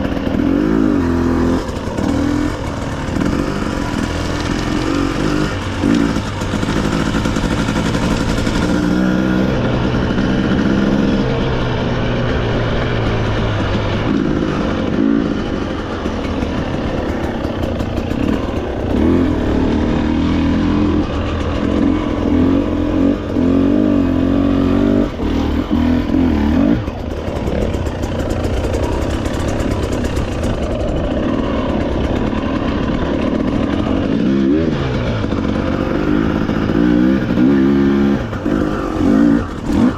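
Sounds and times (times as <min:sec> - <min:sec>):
clatter over rough ground: 0:00.0 - 0:39.9
off-road motorcycle engine: 0:00.0 - 0:39.9.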